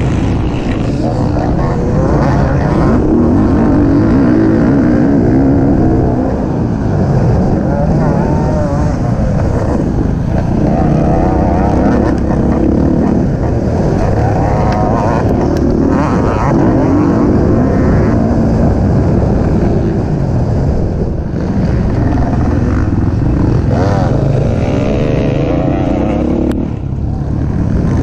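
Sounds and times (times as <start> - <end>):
racing engine revving: 0.0 - 28.0.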